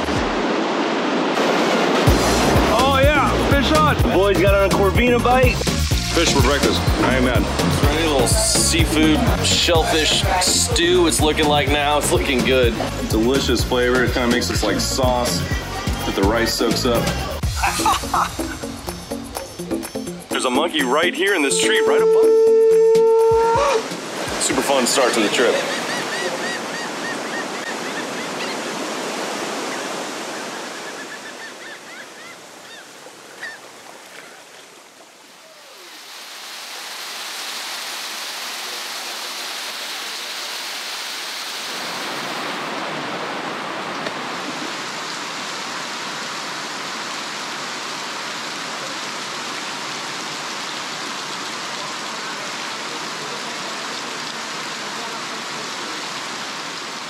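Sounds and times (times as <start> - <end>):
stream rushing: 0.0 - 57.0
surf washing over rocks: 0.0 - 57.0.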